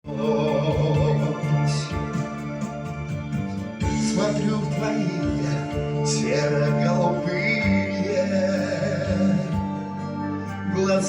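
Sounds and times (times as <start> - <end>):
steady bass beat: 0.0 - 10.8
electronic keyboard chords: 0.0 - 11.0.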